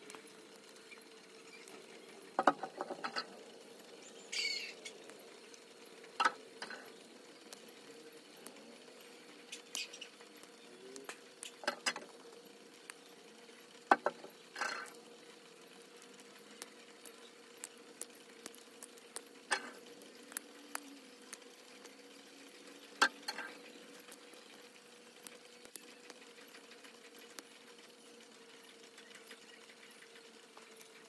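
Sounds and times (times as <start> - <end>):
faint steady hum: 0.0 - 31.0
small hard objects clicking: 0.0 - 31.0.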